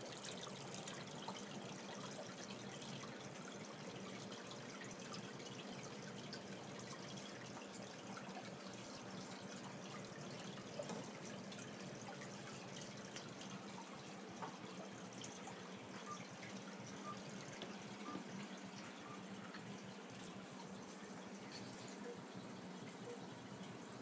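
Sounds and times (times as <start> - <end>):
aquarium water trickling: 0.0 - 24.0
faint low hum: 0.0 - 24.0.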